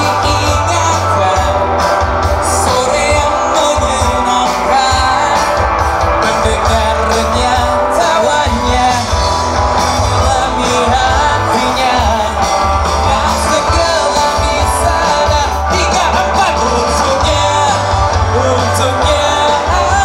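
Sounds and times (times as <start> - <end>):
man singing: 0.0 - 20.0
rock band playing live: 0.0 - 20.0.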